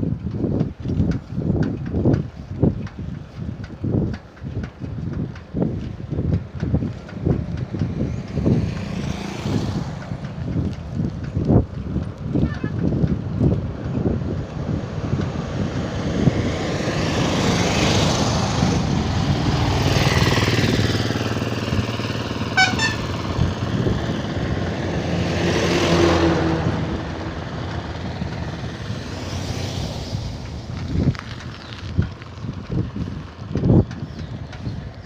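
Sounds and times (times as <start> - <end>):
vehicles passing: 0.0 - 35.0.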